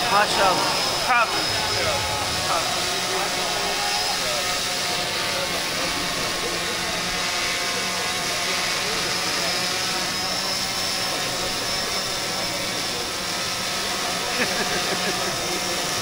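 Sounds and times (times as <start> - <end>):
faint voices in crowded hall: 0.0 - 14.2.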